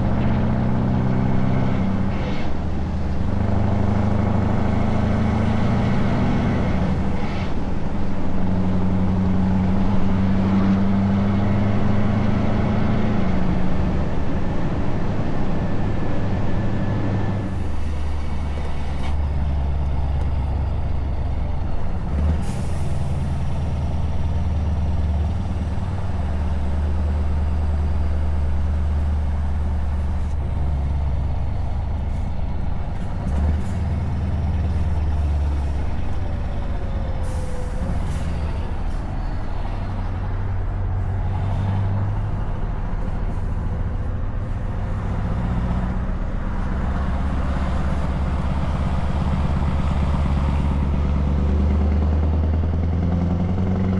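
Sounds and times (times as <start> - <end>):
truck engine drone: 0.0 - 53.9.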